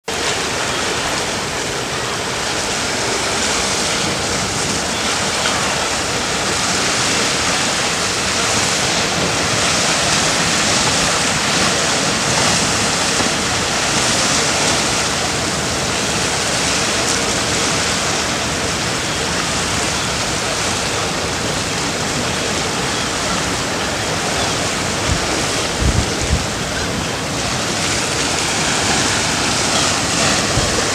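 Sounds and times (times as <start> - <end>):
sea waves breaking: 0.0 - 30.9
wind: 0.0 - 30.9
wind gusts buffeting microphone: 0.1 - 30.9.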